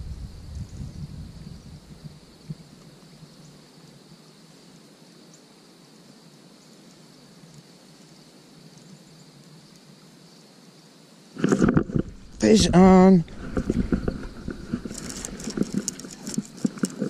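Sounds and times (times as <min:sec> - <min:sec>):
faint background hiss: 0:00.0 - 0:17.0
high-pitched insect chorus: 0:00.0 - 0:17.0.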